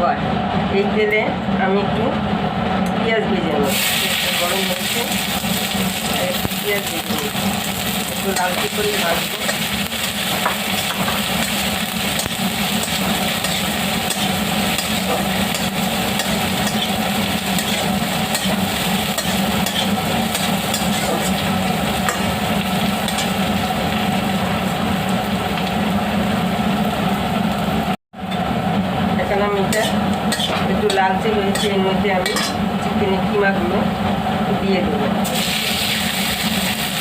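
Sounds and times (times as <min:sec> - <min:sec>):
onions sizzling in oil: 0:03.6 - 0:33.3, 0:35.2 - 0:37.0.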